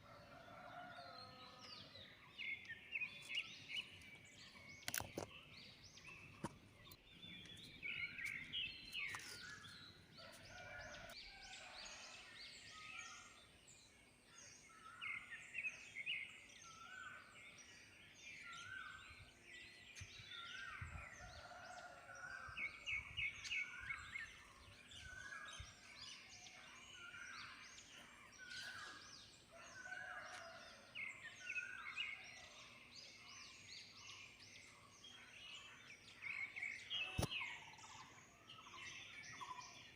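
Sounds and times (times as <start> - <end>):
birds singing in dawn chorus: 0.0 - 39.9.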